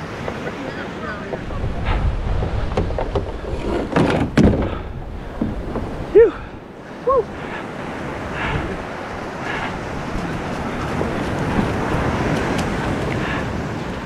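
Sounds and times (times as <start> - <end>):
surf washing up a beach: 0.0 - 14.0
wind on microphone: 0.0 - 14.0.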